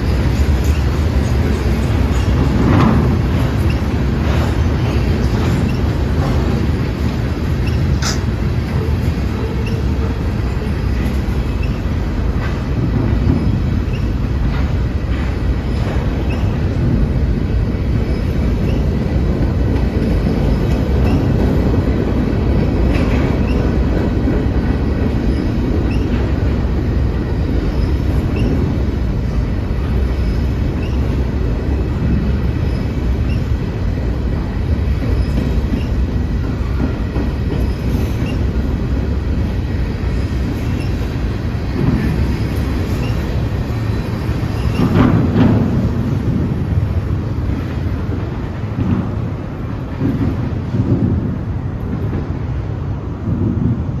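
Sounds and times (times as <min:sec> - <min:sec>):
train wheel clicks: 0:00.0 - 0:52.3
freight train rumbling on rails: 0:00.0 - 0:54.0.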